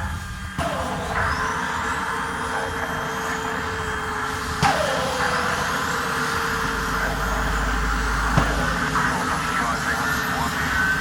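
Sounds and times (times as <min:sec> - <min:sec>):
turbine engines whining: 0:00.0 - 0:11.0.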